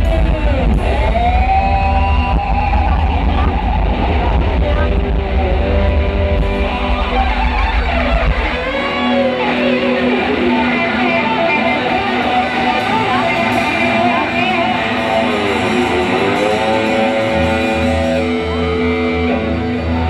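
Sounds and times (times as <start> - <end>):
electric guitar solo: 0.0 - 20.0
heavy deep bass: 0.0 - 20.0
keyboard: 0.0 - 20.0.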